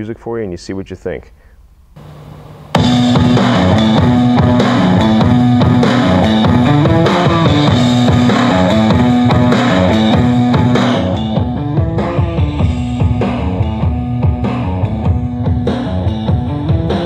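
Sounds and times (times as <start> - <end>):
rock music through a speaker: 2.0 - 17.0.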